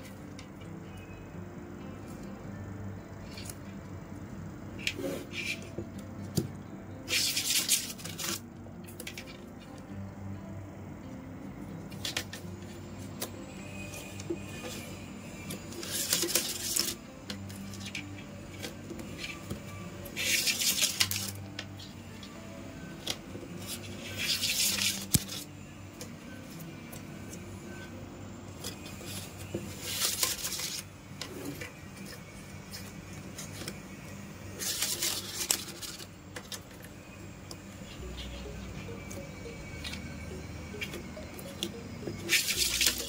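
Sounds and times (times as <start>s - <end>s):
soft background music: 0.0s - 43.0s.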